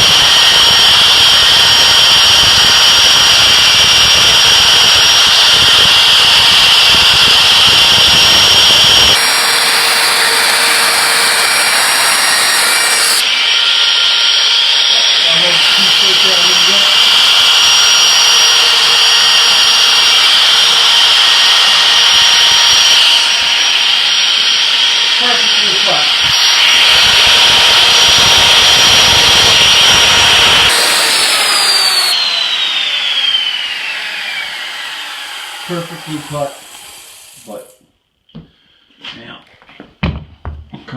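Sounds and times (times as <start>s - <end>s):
router cutting wood: 0.0s - 37.8s.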